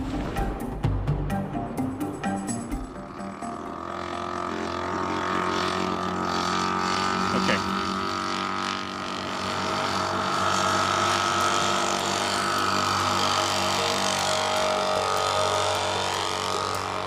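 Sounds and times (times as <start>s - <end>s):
model aeroplane engine running: 2.0s - 17.0s.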